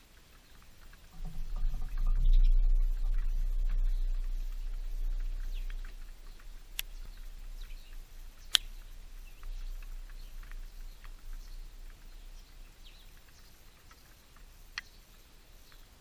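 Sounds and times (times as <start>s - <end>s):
small birds chirping: 0.0s - 16.0s
low rumble: 0.9s - 14.8s
sharp clicks: 3.0s - 15.9s.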